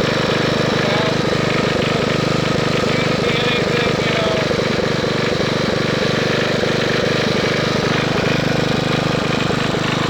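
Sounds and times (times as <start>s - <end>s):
garden tractor engine running: 0.0s - 10.0s.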